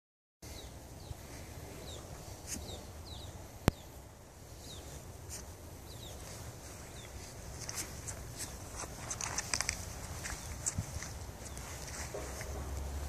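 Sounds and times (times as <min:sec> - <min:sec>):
small birds chirping: 0:00.4 - 0:13.0
low outdoor rumble: 0:00.5 - 0:13.0
soft rustles in grass: 0:00.5 - 0:13.0.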